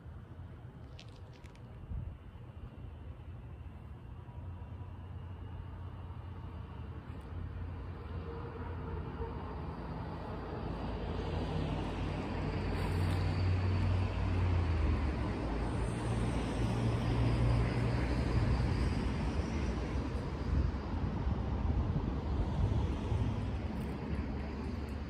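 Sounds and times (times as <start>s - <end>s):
road traffic engine rumble: 0.0s - 25.0s.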